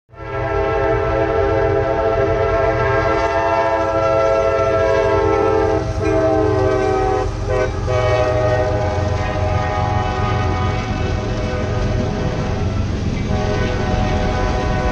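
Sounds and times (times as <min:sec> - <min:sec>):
diesel locomotive air horn: 0:00.1 - 0:14.9.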